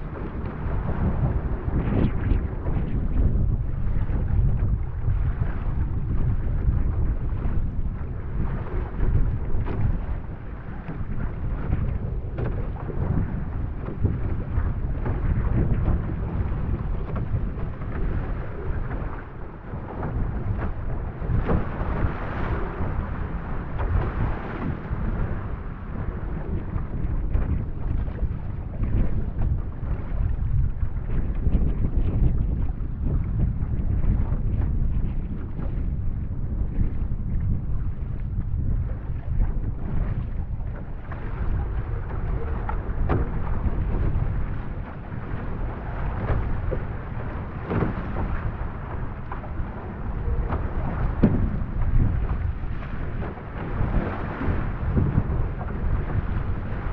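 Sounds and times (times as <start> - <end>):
water rushing along hull: 0.0 - 56.9
water splashes: 0.0 - 56.9
wind buffeting microphone: 0.0 - 56.9.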